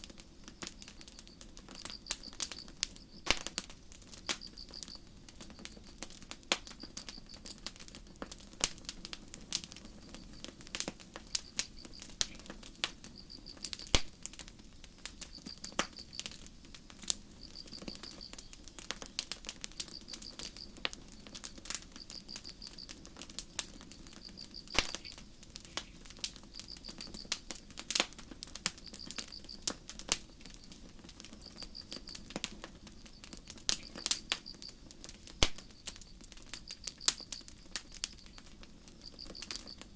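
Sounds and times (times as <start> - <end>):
crickets chirping: 0.0 - 8.2, 9.5 - 39.9
campfire crackling and popping: 0.0 - 39.9.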